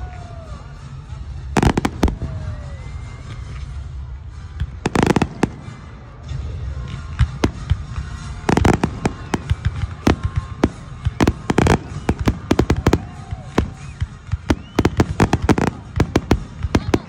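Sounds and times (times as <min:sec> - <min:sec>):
fireworks bangs with crackle: 0:01.4 - 0:17.0.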